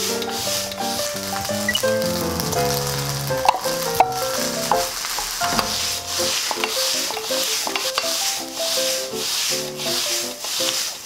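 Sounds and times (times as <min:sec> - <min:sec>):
background music: 0:00.0 - 0:10.0
rice sizzling in frying pan: 0:00.0 - 0:11.0.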